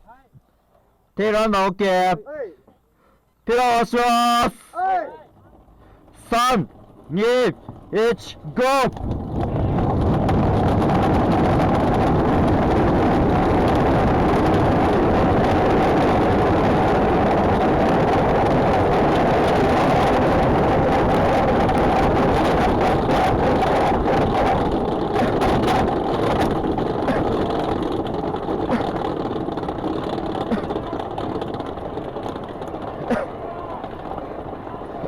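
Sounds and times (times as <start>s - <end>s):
rolling mechanical noise: 3.2s - 35.0s.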